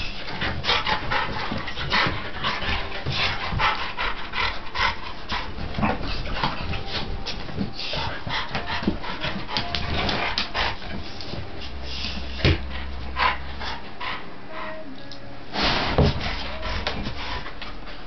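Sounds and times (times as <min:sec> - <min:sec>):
dogs panting: 0:00.0 - 0:14.7, 0:15.9 - 0:18.0.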